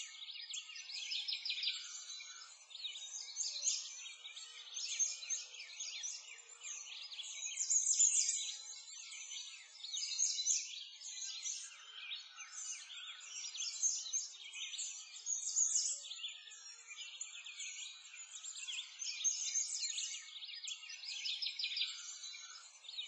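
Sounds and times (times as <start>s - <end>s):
small birds chirping and singing: 0.0s - 23.0s.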